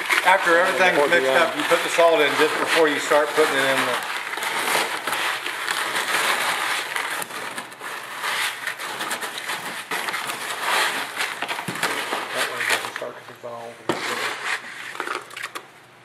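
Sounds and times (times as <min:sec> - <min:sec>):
gritty crackles of mixing cement: 0:00.0 - 0:15.7.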